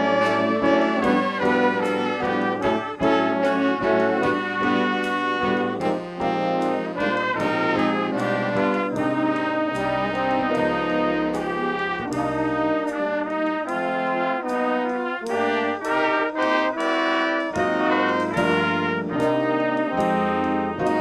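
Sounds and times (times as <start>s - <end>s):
brass instruments playing chords: 0.0s - 21.0s.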